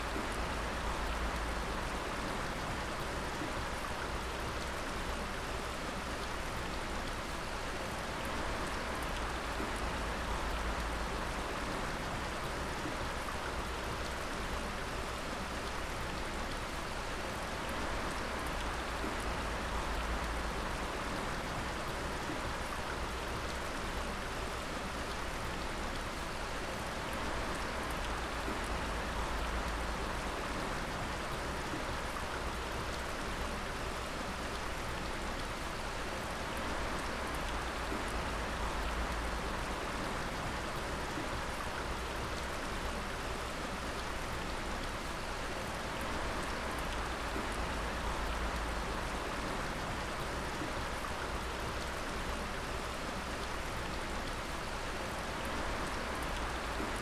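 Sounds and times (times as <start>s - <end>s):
continuous watery hiss: 0.0s - 57.0s.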